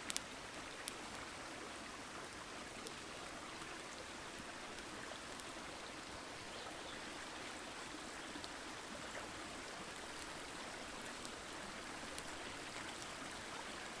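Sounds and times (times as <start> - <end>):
campfire crackles: 0.0 - 14.0
stream flowing: 0.0 - 14.0.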